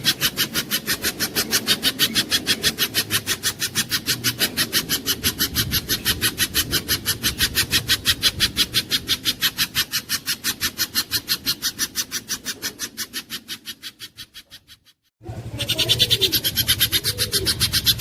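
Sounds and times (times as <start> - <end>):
bird calling sharp chip notes: 0.0 - 18.0.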